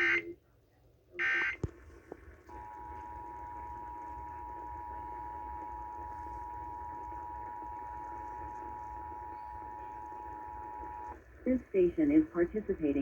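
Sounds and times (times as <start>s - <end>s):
data tone bursts: 2.5s - 13.0s.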